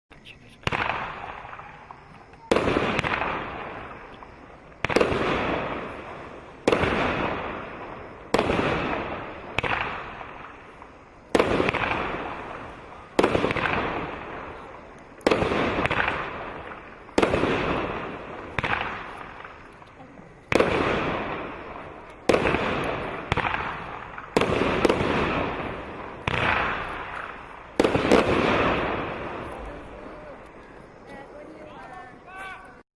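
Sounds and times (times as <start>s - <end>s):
firework cake bangs: 0.6s - 19.8s, 20.4s - 30.7s.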